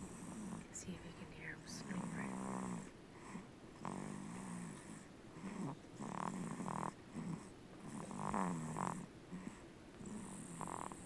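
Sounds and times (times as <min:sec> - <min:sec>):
infant snoring: 0:00.0 - 0:00.8, 0:01.7 - 0:11.0.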